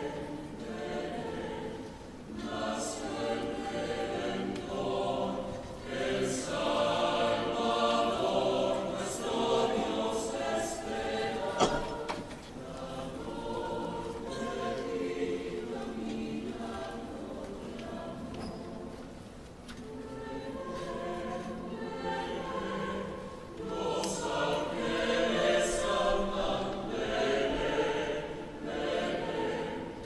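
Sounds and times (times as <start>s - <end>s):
mixed choir singing: 0.0s - 30.0s.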